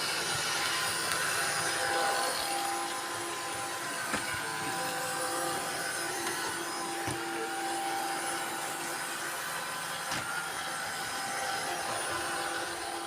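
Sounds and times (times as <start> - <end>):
robot vacuum cleaners running: 0.0 - 13.0.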